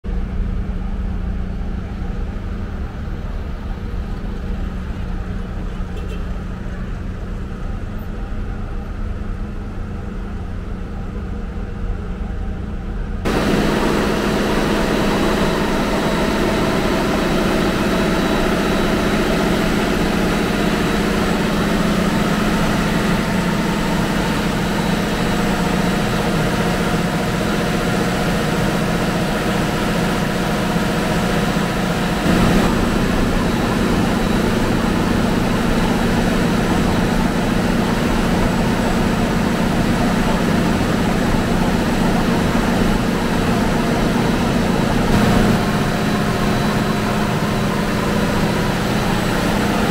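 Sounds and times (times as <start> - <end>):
diesel machinery drone: 0.1 - 49.9.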